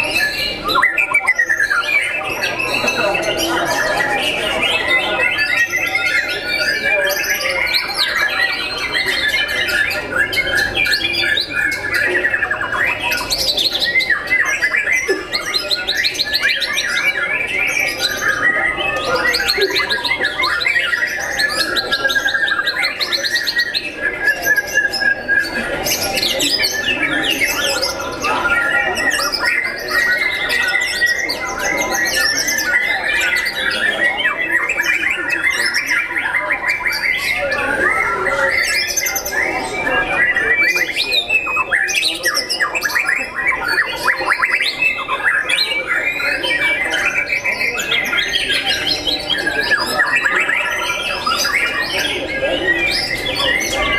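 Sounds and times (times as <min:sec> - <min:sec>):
bird singing whistles and trills: 0:00.0 - 0:53.9
other songbirds singing: 0:00.0 - 0:53.9.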